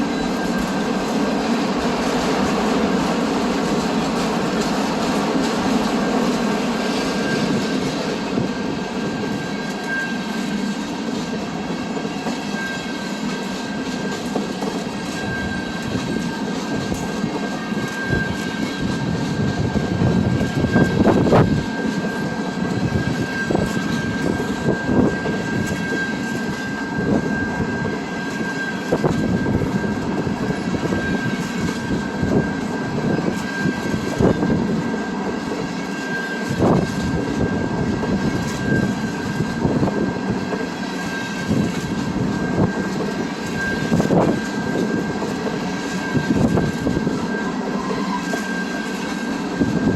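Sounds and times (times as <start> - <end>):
train rumbling past: 0.0 - 49.9.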